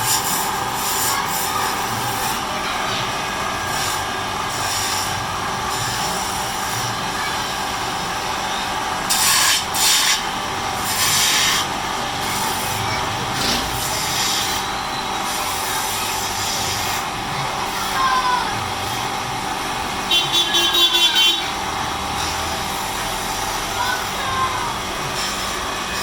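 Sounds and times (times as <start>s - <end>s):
wood lathe running: 0.0s - 26.0s.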